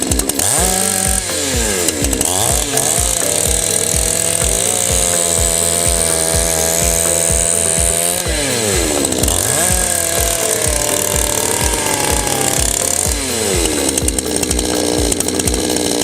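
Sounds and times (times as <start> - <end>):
chainsaw engine revving: 0.0 - 16.0
music with a steady beat: 0.0 - 16.0.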